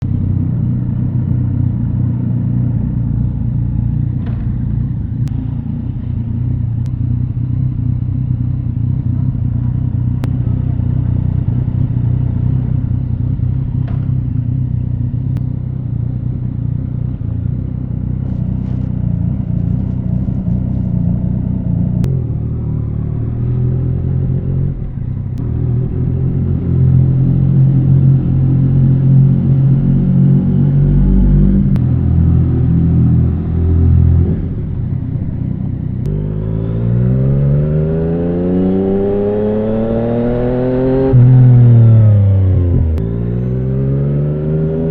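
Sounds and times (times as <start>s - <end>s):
motorcycle engine at low revs: 0.0s - 44.9s.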